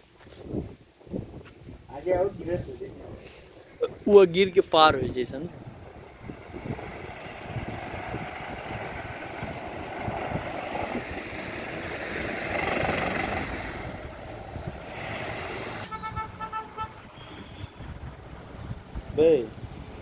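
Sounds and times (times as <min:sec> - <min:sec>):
motorbike road and wind noise: 0:00.0 - 0:20.0.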